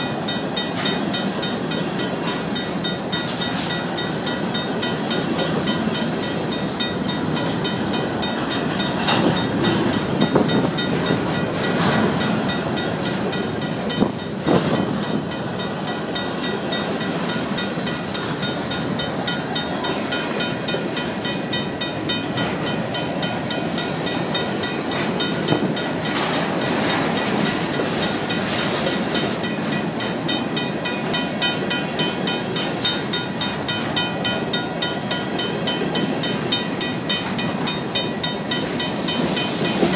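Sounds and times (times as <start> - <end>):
crossing bell ringing: 0.0 - 39.9
freight cars rolling on rails: 0.0 - 39.9.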